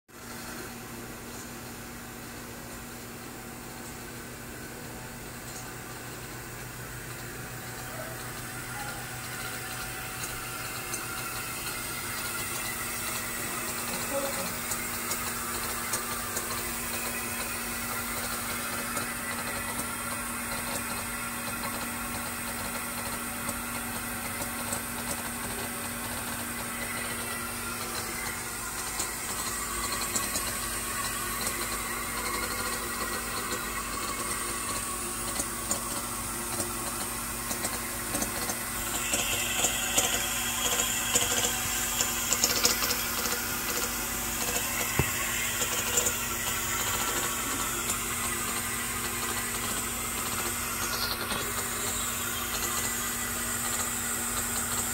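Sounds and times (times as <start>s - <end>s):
machine hum and hiss: 0.2s - 54.9s.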